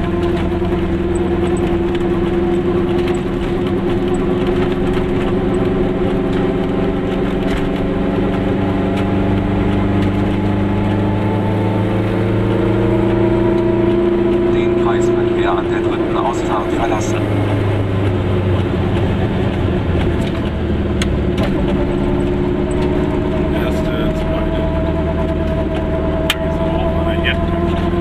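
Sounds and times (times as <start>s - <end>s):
car engine hum: 0.0s - 28.0s
road noise: 0.0s - 28.0s.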